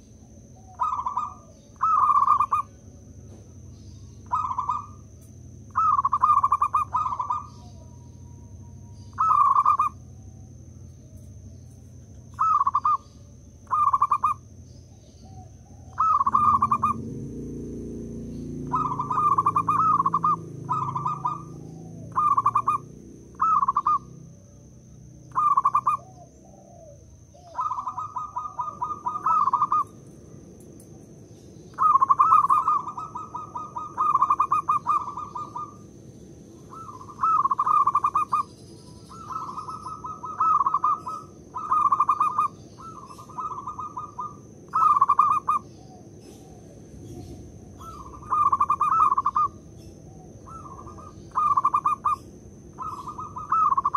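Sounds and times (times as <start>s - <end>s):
dove cooing: 0.0s - 17.5s, 18.1s - 24.6s, 25.2s - 53.9s.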